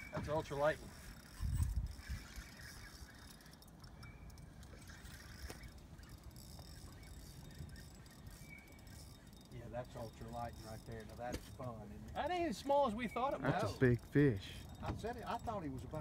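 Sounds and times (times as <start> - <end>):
fishing reel whirring: 0.0 - 16.0.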